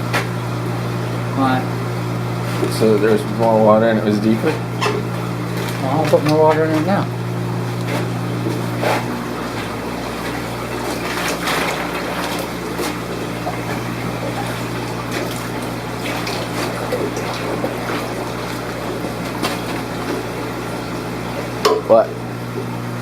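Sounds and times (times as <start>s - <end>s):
aquarium pumps humming: 0.0s - 23.0s
water pouring and trickling: 4.4s - 23.0s.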